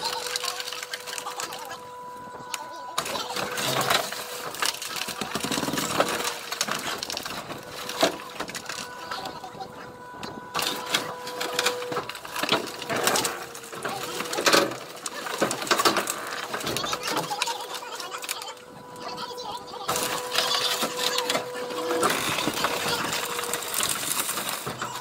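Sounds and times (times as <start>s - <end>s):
car body cracking and creaking: 0.0s - 1.8s, 2.5s - 25.0s
hydraulic machine hum and whine: 0.0s - 25.0s.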